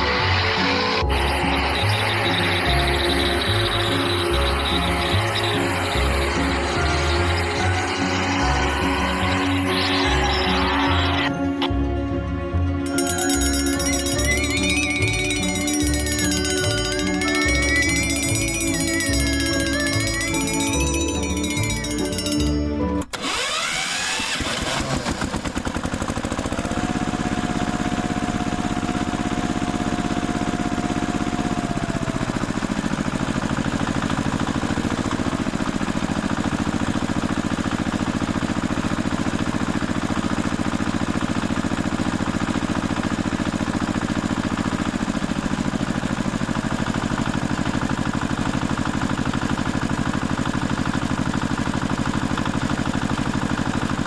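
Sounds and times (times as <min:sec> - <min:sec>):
steady engine running: 0:00.1 - 0:12.1, 0:12.9 - 0:54.0.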